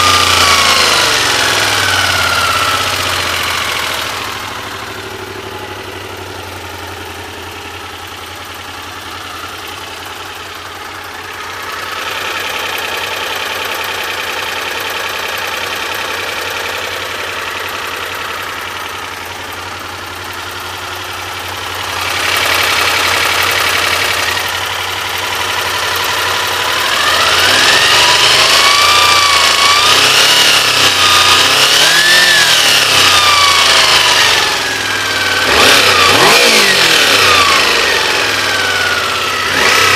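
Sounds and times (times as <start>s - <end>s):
engine knock: 0.0s - 39.9s
motorcycle engine idling and revving: 0.0s - 39.9s.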